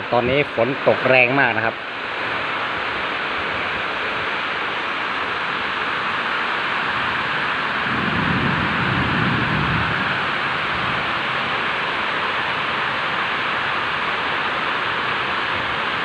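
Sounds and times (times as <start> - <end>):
heavy rain pouring: 0.0 - 16.0
strong wind: 0.0 - 16.0.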